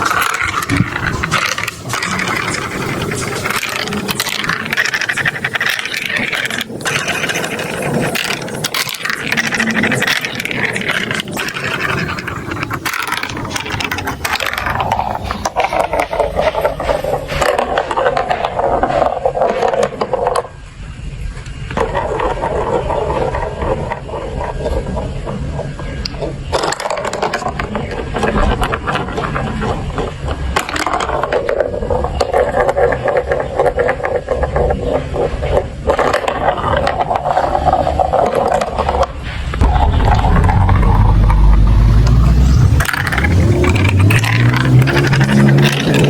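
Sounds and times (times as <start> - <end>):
plastic marble run pieces clattering: 0.0 - 20.6, 21.2 - 46.0
marbles rolling and scraping: 0.0 - 46.0.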